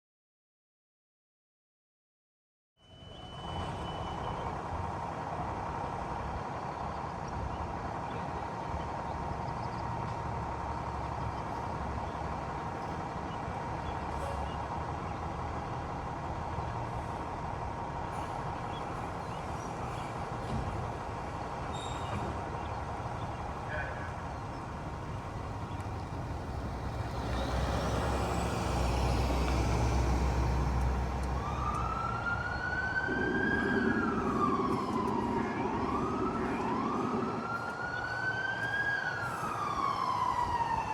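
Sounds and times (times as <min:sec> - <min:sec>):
diesel engine rumbling: 0:03.4 - 0:40.9.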